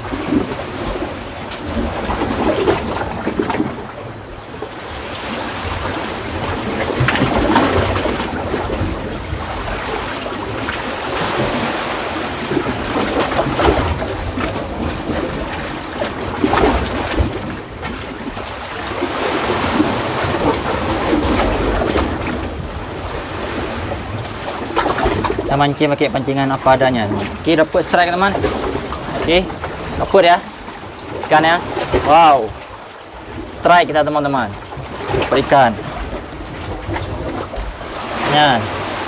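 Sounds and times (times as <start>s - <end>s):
seawater surging through rocks: 0.0s - 39.0s.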